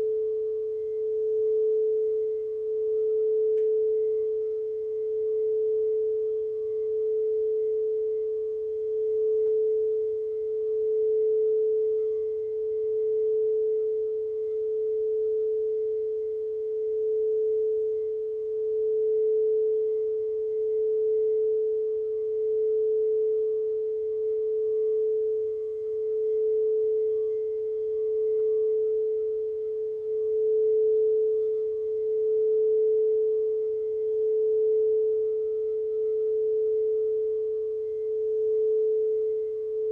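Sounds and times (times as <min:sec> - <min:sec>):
singing bowl note: 0:00.0 - 0:39.9.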